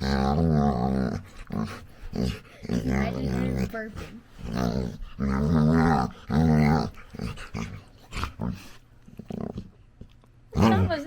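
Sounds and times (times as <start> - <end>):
puppy growling in play: 0.0 - 9.8, 10.5 - 11.0.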